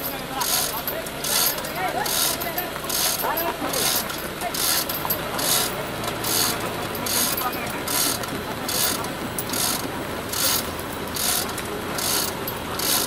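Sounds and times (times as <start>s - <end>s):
hoist chain rattling: 0.0s - 13.0s.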